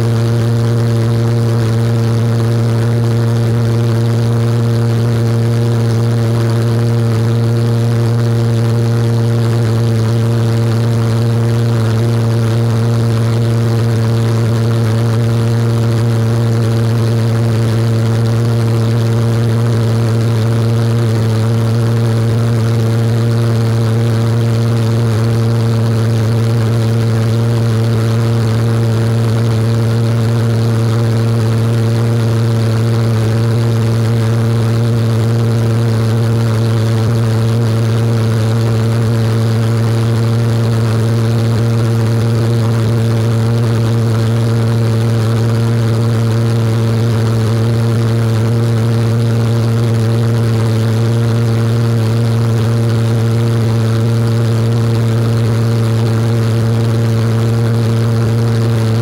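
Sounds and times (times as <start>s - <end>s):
pulsejet engine low buzz: 0.0s - 59.0s.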